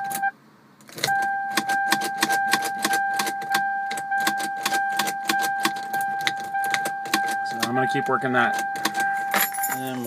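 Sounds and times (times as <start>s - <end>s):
car key warning tone: 0.0s - 0.4s, 1.0s - 10.0s.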